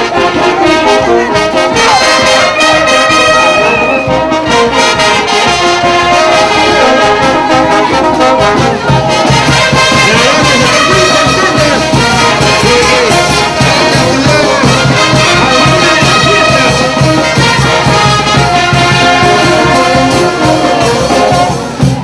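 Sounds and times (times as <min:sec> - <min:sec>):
brass band playing dance music: 0:00.0 - 0:22.0.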